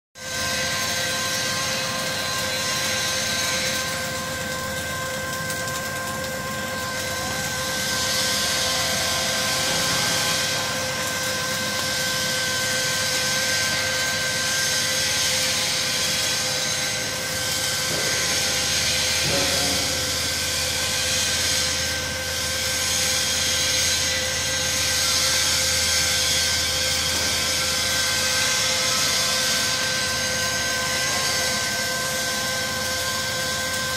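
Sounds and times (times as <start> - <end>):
wire feeder motor whine: 0.2 - 33.9.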